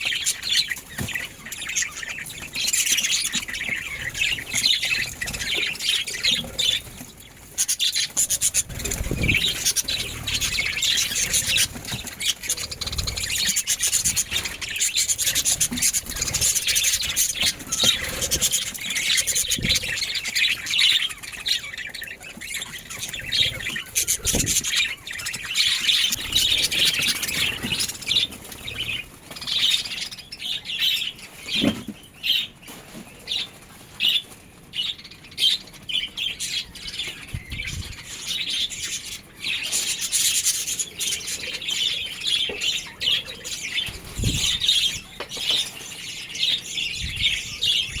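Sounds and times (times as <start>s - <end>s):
budgerigars chattering and chirping: 0.0s - 32.6s, 33.2s - 48.0s.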